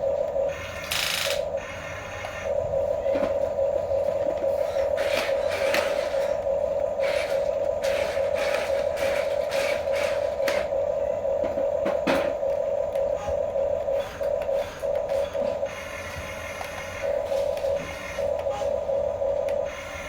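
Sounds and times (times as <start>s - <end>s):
toy electric motors whining: 0.5s - 3.5s, 4.3s - 10.8s, 13.2s - 20.0s.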